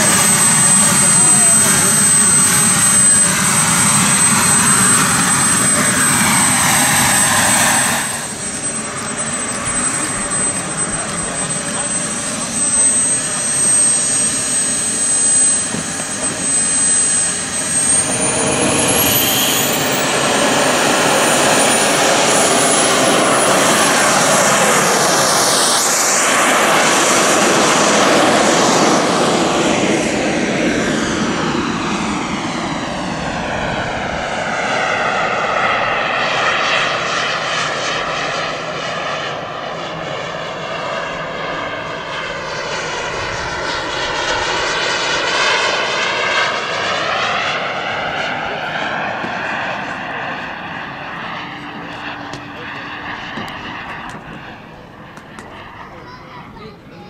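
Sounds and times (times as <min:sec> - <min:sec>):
model jet engine whine: 0:00.0 - 0:57.0.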